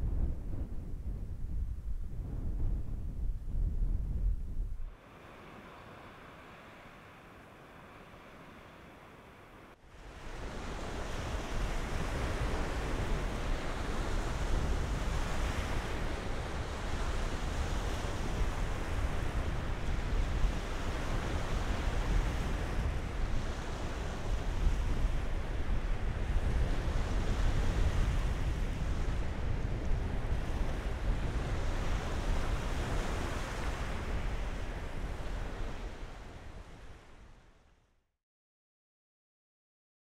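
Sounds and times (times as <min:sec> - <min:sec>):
wind buffeting microphone: 0:00.0 - 0:05.0, 0:10.0 - 0:37.4
waves washing on shore: 0:04.9 - 0:37.4.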